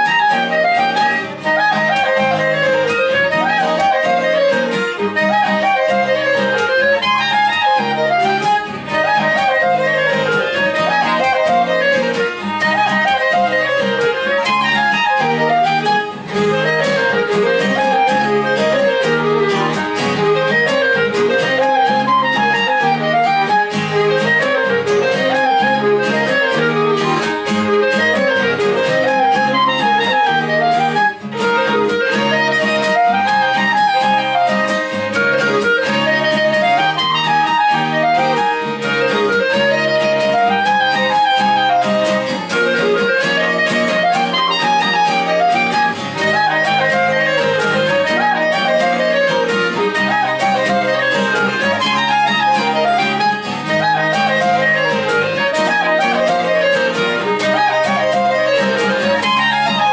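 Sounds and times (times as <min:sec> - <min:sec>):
acoustic guitar chords: 0:00.0 - 0:59.9
clarinet melody: 0:00.0 - 0:59.9
violin melody: 0:00.0 - 0:59.9.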